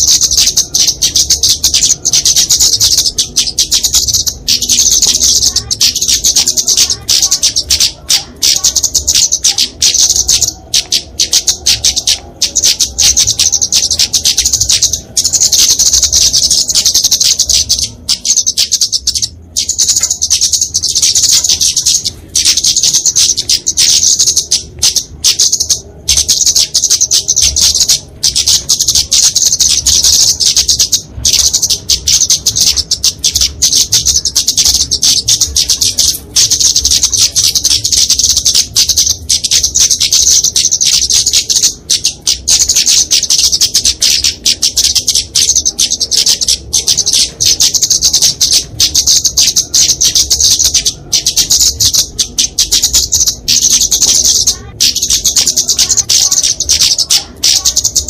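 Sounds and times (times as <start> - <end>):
bird high-pitched rapid chirps: 0.0 - 58.0.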